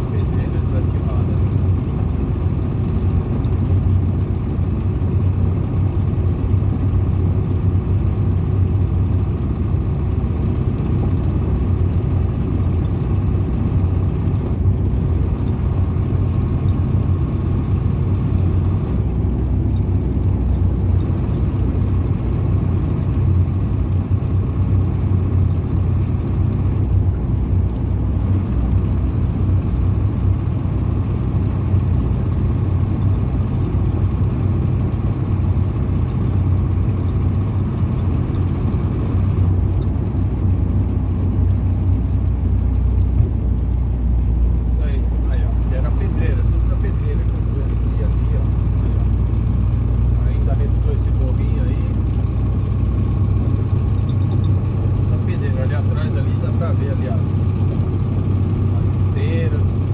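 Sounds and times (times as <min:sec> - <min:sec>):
road noise: 0:00.0 - 0:59.9
truck diesel engine cruising: 0:00.0 - 0:59.9.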